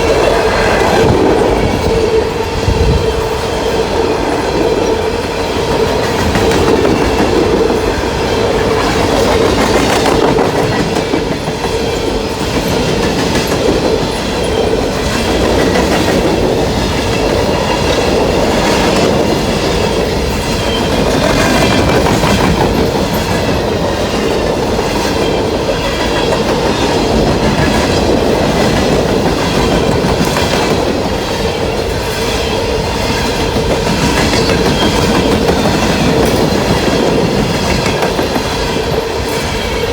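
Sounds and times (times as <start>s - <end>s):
train wheels rumbling: 0.0s - 39.9s
wheels clacking over rail joints: 0.0s - 39.9s.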